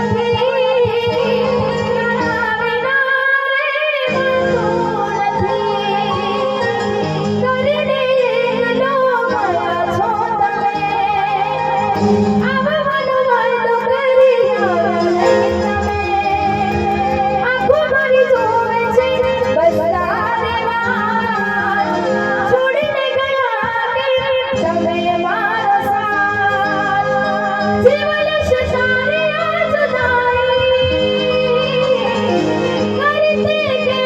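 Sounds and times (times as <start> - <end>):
musical accompaniment: 0.0 - 34.0.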